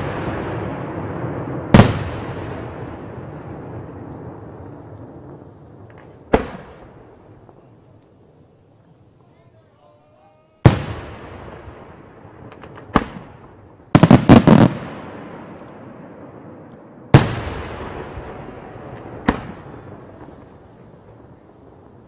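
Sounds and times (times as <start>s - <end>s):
firework bangs with echo: 0.0s - 7.7s, 10.6s - 22.0s.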